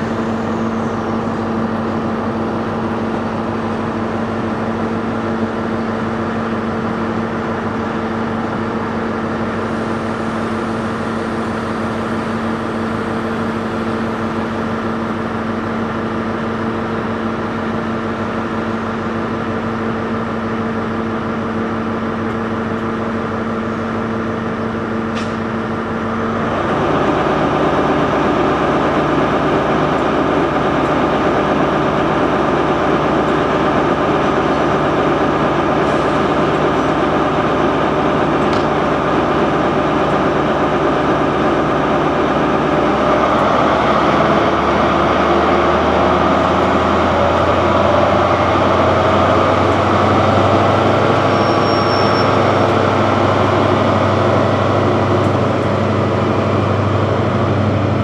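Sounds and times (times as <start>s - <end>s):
diesel engine idling: 0.0s - 58.0s
diesel train engine: 0.0s - 58.0s.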